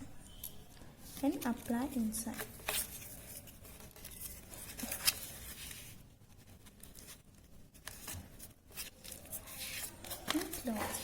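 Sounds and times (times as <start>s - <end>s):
paper rustling and tapping: 0.7s - 11.0s.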